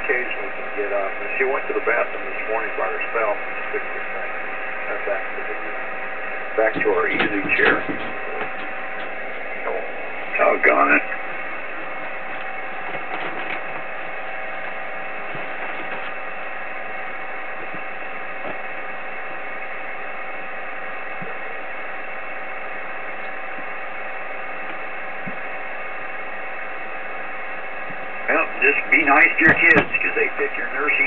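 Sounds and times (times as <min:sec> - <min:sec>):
faint steady tones: 0:00.0 - 0:31.0
radio static hiss: 0:00.0 - 0:31.0.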